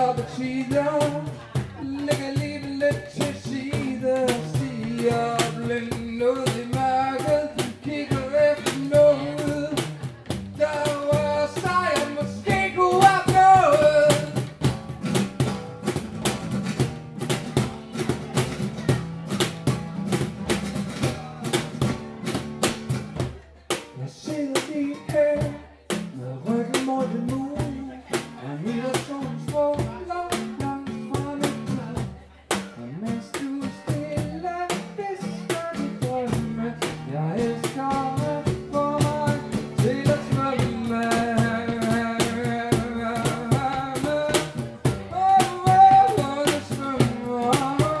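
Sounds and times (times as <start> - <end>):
man singing into a microphone: 0.0 - 14.6, 23.8 - 48.0
acoustic guitar: 0.0 - 48.0
drum kit steady beat: 0.0 - 48.0.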